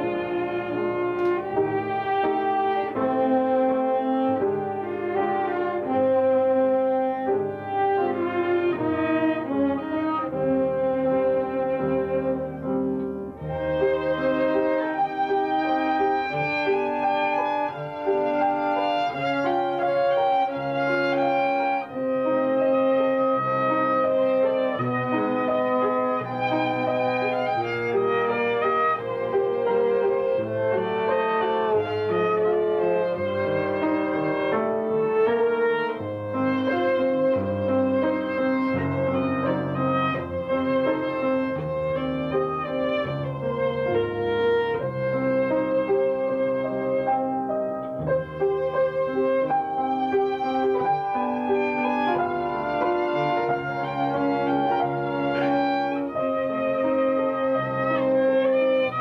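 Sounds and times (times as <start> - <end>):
lower accompaniment: 0.0 - 59.0
violin melody: 0.0 - 59.0.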